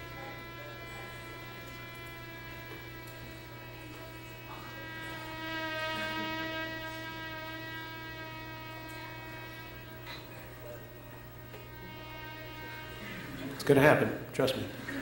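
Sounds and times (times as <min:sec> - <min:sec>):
singing flame hum: 0:00.0 - 0:15.0.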